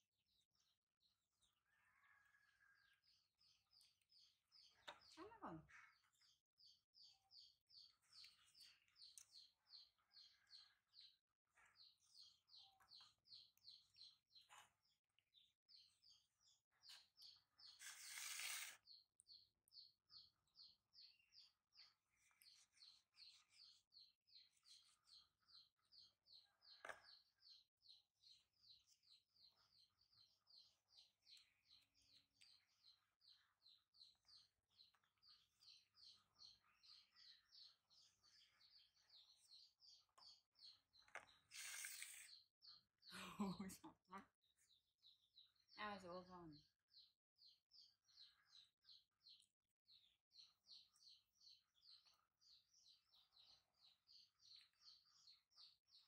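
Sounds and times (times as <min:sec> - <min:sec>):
bird chirping: 0:00.3 - 0:56.0.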